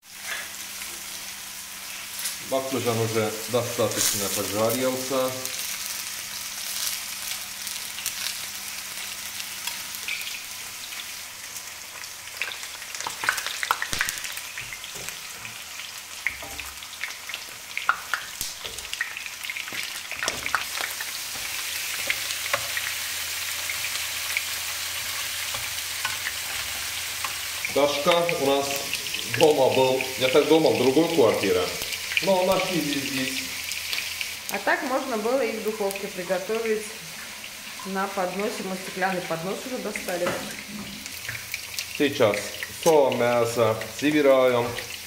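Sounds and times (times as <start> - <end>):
eggplant sizzling in oil: 0.0 - 45.0.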